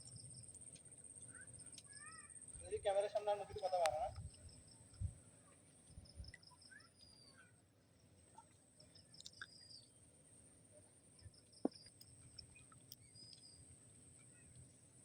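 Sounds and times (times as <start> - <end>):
faint bird chirps: 1.1 - 2.9, 3.6 - 10.1, 10.7 - 15.0.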